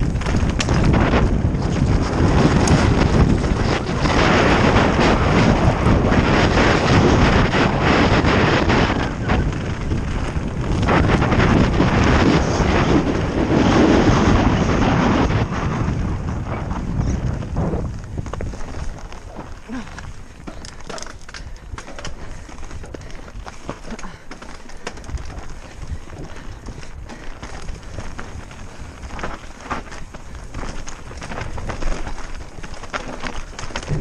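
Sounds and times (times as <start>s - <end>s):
mountain bike rumble and rattle: 0.0s - 34.0s
wind buffeting microphone: 0.0s - 34.0s.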